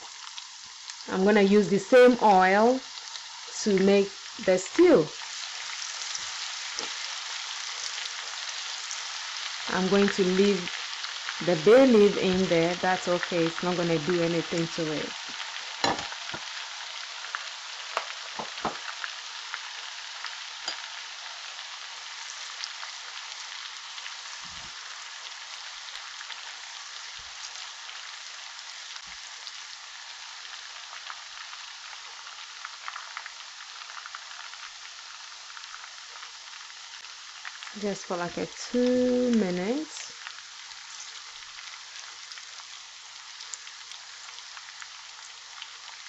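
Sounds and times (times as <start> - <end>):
onions sizzling in oil: 0.0 - 46.0.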